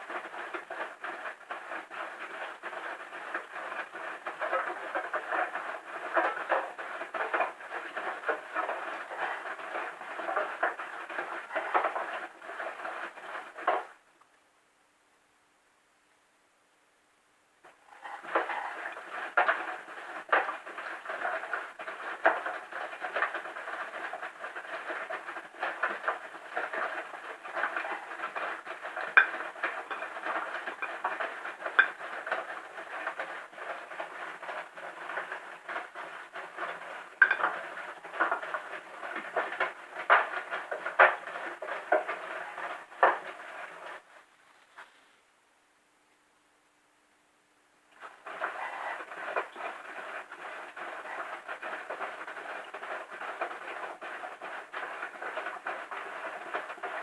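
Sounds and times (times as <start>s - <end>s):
scraping rattling noise: 0.0s - 14.0s, 17.6s - 45.2s, 48.0s - 57.0s
washing machine running: 0.0s - 14.0s, 18.0s - 44.1s, 48.0s - 57.0s.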